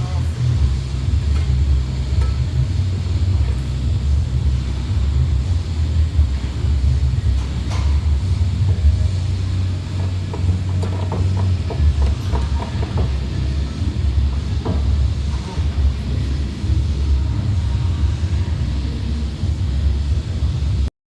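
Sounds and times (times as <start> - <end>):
van driving rumble: 0.0 - 20.9.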